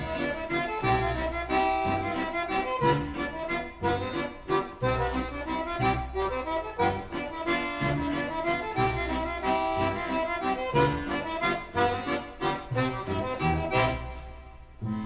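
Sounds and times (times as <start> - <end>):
accordion tune: 0.0 - 15.0.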